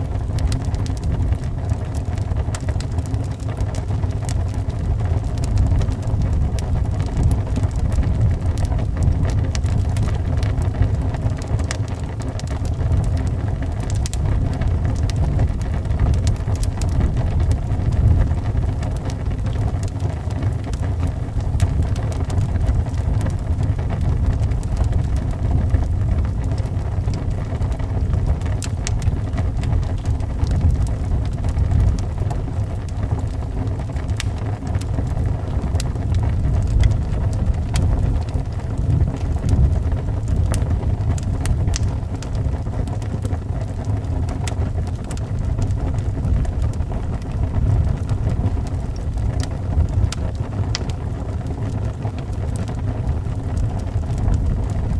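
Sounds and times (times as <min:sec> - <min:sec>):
wind rumbling: 0:00.0 - 0:54.9
wood fire crackling and popping: 0:00.0 - 0:54.9.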